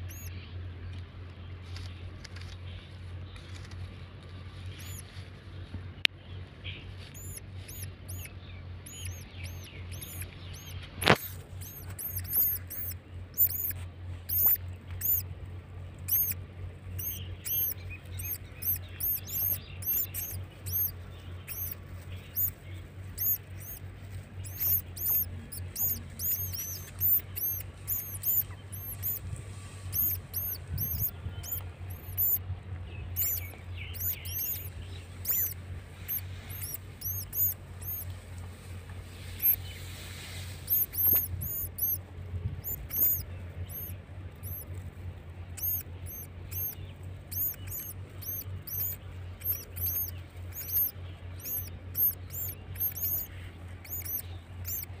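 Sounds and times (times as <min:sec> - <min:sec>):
baby mice squeaking: 0:00.0 - 0:00.3, 0:04.7 - 0:05.1, 0:07.0 - 0:38.2, 0:39.3 - 0:39.8, 0:40.4 - 0:55.0.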